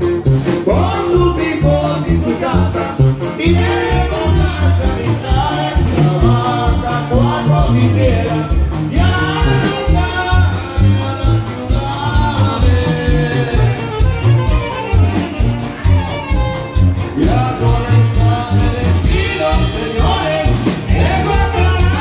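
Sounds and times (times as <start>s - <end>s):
live dance music: 0.0s - 22.0s.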